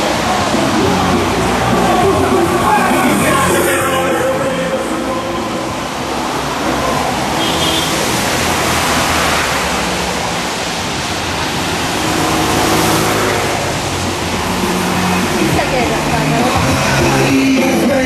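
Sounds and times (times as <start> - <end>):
tyres hissing on wet road: 0.0 - 18.0
vehicle engines passing: 0.0 - 18.0.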